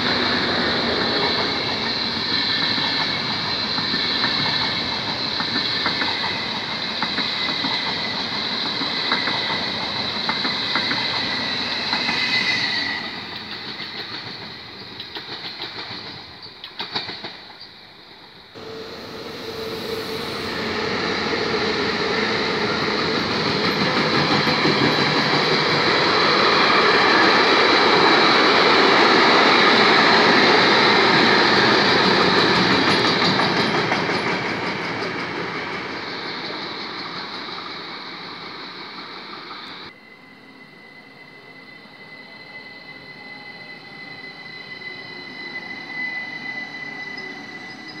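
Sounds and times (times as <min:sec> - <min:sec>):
freight train passing at speed: 0:00.0 - 0:48.0.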